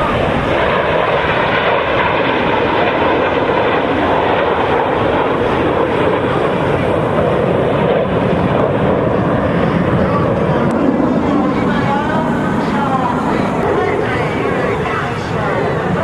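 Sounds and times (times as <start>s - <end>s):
jet aircraft flying overhead: 0.0s - 16.0s.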